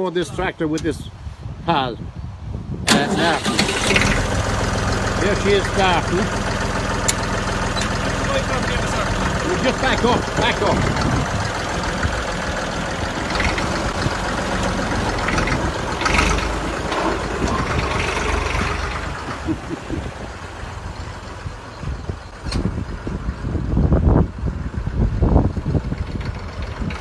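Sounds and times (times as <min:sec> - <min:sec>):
diesel tractor engine running: 0:02.6 - 0:27.0.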